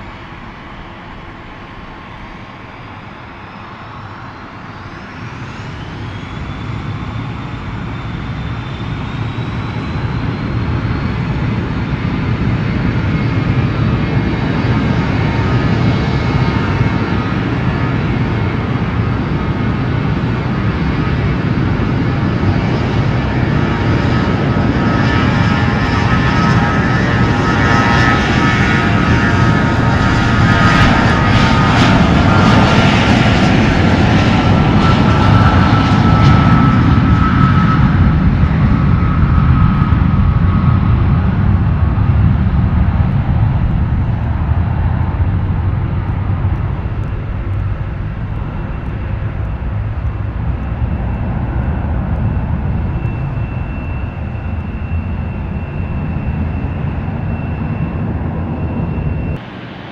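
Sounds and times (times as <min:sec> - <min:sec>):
airliner engines passing: 0:00.0 - 0:59.9.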